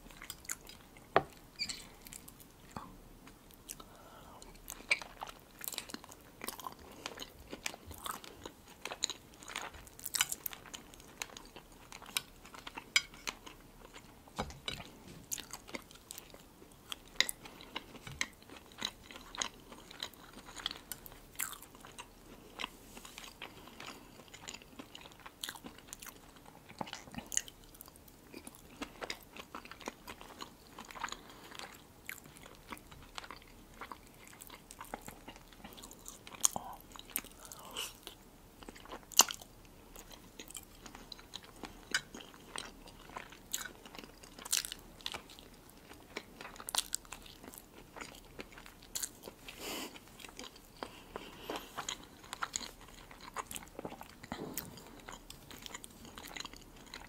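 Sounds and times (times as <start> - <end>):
chewing and mouth clicks: 4.5 - 57.0.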